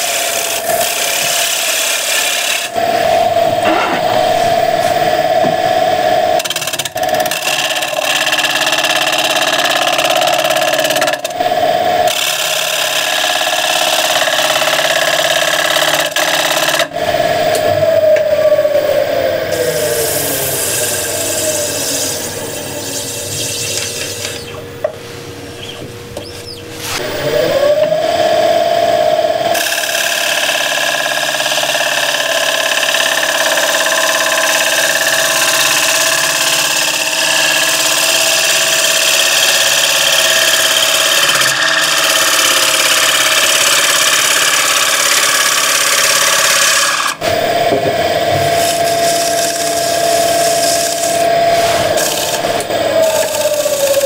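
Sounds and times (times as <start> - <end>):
gouge cutting spinning wood: 0.0 - 54.0
wood lathe motor whine: 0.0 - 54.0.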